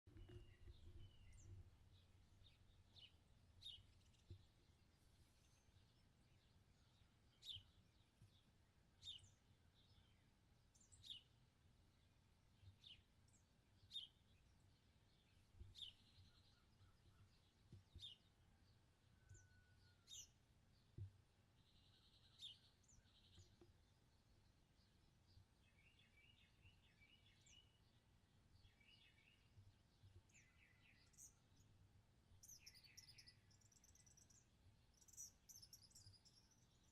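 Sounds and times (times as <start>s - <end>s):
faint background noise: 0.1s - 36.9s
small birds chirping: 0.1s - 36.9s.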